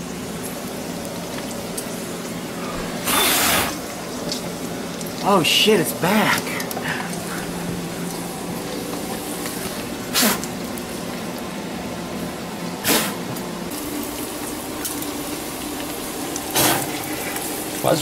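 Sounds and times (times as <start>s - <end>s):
bacon sizzling in a frying pan: 0.0s - 18.0s.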